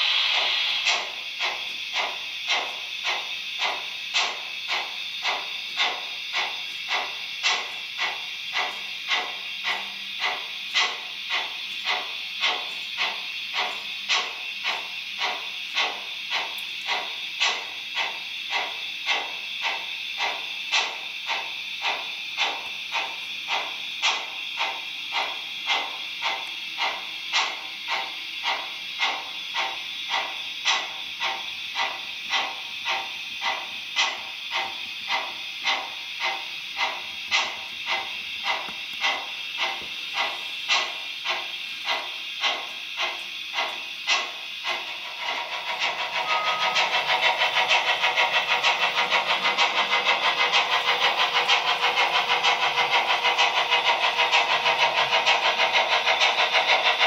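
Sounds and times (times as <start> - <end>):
model steam locomotive chuffs: 0.0 - 57.0
steady steam hiss: 0.0 - 57.0.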